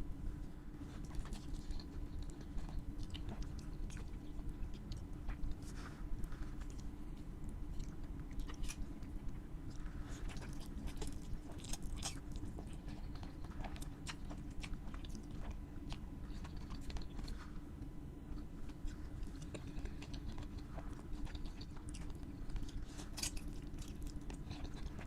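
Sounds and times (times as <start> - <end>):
chewing crispy food: 0.4 - 25.0.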